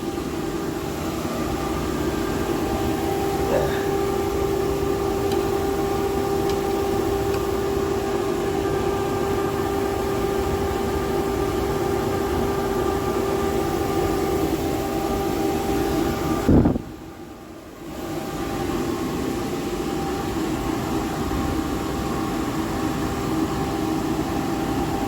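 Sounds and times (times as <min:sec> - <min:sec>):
boiler burner droning: 0:00.0 - 0:25.0.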